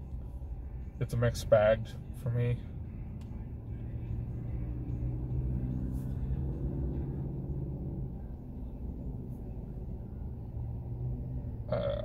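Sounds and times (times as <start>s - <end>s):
car engine humming: 0.0s - 12.0s
faint music in car: 0.0s - 12.0s.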